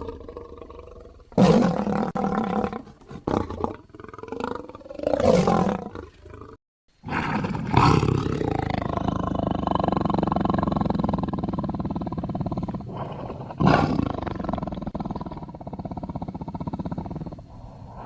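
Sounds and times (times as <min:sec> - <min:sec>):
big cat roaring: 0:00.0 - 0:18.0.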